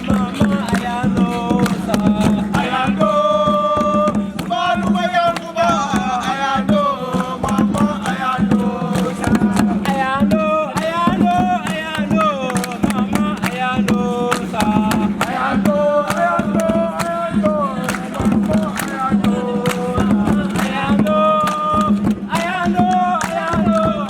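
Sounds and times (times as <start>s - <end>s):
hand drum beats: 0.0s - 24.0s
voices singing a chant: 0.0s - 24.0s.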